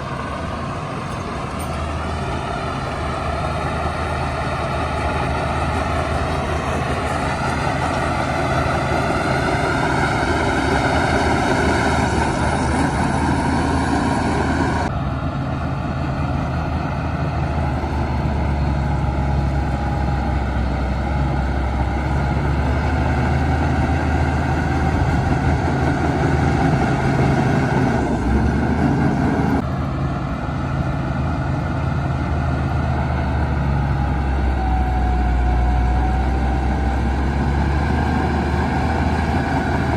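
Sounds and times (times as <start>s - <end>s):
heavy diesel machinery drone: 0.0s - 39.9s
machinery whine: 0.0s - 39.9s.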